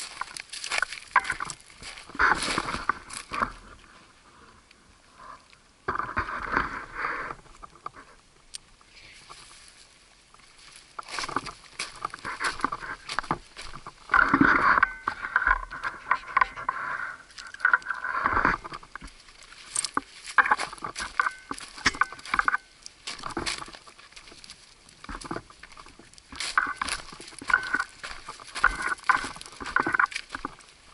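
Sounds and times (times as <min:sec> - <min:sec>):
footsteps crunching on gravel: 0:00.0 - 0:03.8, 0:09.3 - 0:16.6, 0:17.3 - 0:30.9
gear rustling against camera: 0:00.0 - 0:04.0, 0:08.8 - 0:30.9.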